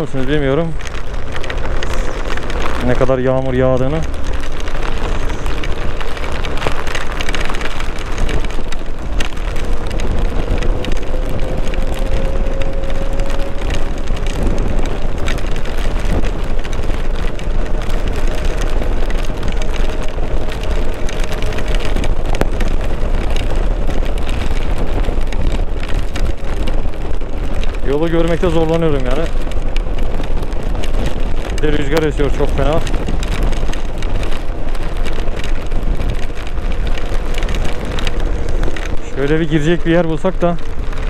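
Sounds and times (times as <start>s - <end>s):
heavy rain: 0.0s - 41.0s
wind buffeting the microphone: 0.0s - 41.0s.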